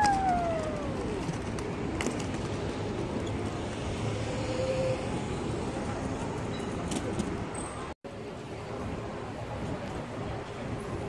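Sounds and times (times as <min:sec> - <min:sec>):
rushing urban background noise: 0:00.0 - 0:11.0.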